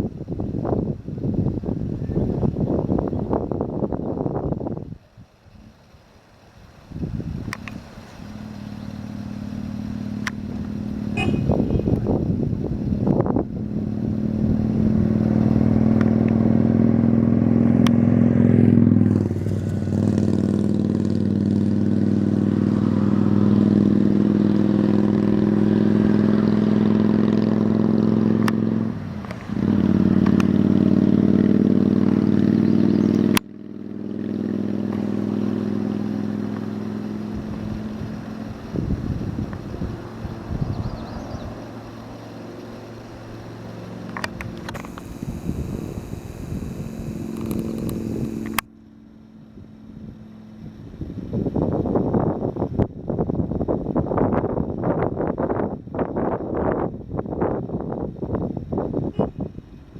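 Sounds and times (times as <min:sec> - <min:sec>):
engine running steadily: 0:07.0 - 0:59.9.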